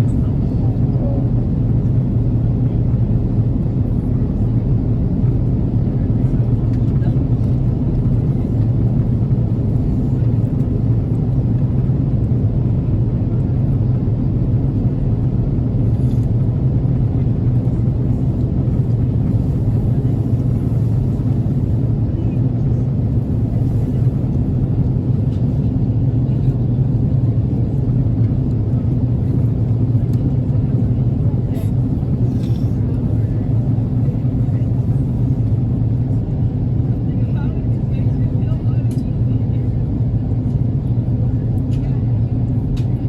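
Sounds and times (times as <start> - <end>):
airliner engine and airflow rumble: 0.0 - 43.0.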